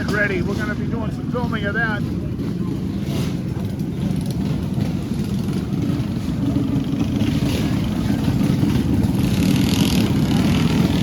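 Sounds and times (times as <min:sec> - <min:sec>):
mini bike engines rumbling: 0:00.0 - 0:11.0.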